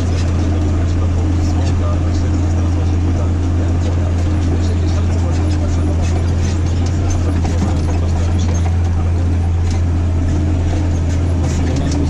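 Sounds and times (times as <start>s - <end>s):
clicks and rattles in cab: 0.0s - 12.0s
tractor engine running under load: 0.0s - 12.0s.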